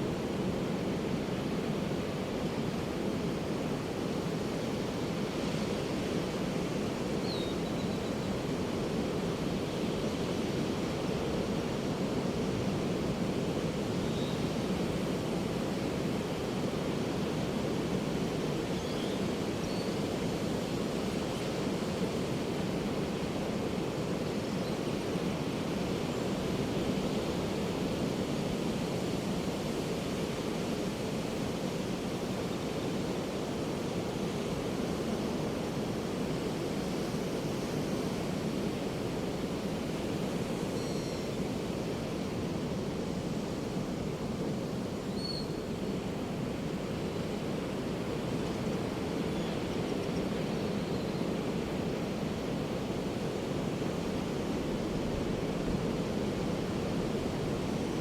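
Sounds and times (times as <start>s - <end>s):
ocean surf washing on beach: 0.0s - 58.0s.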